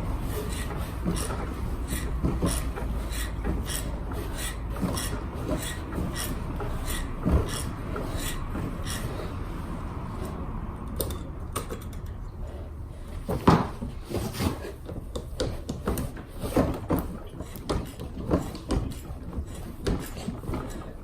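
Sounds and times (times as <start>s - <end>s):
hand tools knocking and clanking: 0.0s - 9.4s, 13.3s - 21.0s.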